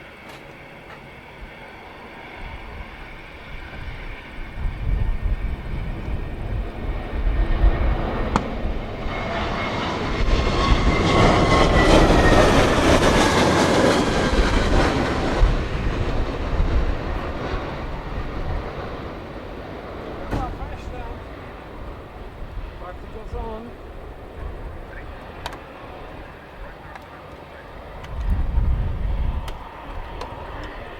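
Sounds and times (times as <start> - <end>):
jet engines roaring: 0.0 - 30.9
wind buffeting microphone: 2.4 - 26.8, 27.7 - 30.9.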